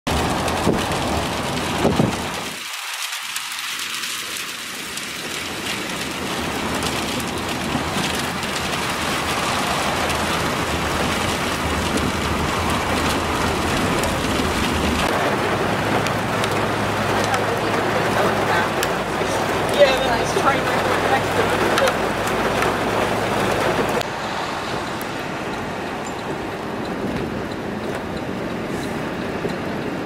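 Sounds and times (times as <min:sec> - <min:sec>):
low road rumble: 0:00.0 - 0:30.0
rain hissing: 0:00.1 - 0:30.0.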